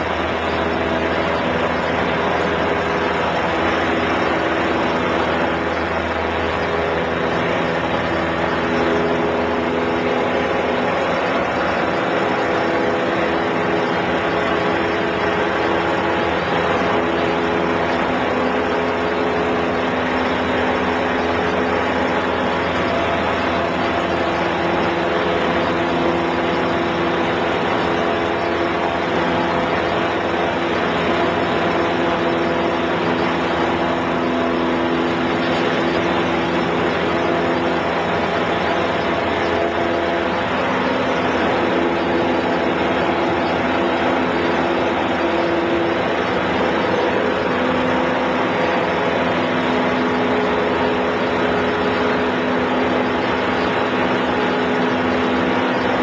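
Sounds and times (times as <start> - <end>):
propeller plane engine drone: 0.0 - 56.0.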